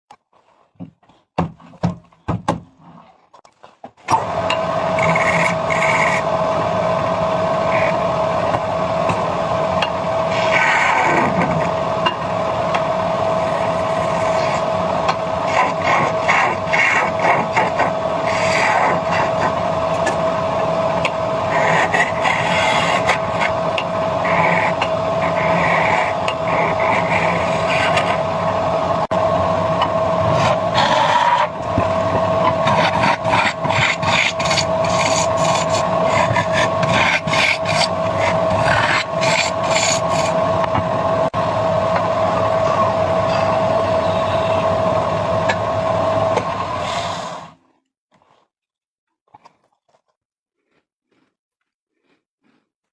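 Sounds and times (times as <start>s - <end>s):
power tool cutting wood: 4.1s - 47.6s.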